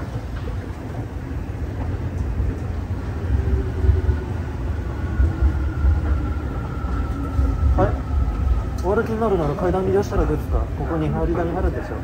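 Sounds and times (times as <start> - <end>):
escalator low rumble: 0.0 - 12.0.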